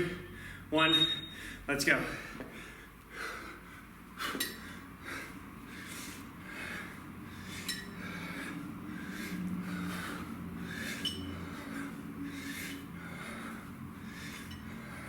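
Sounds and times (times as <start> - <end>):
man breathing hard: 0.2 - 0.7, 1.3 - 15.0.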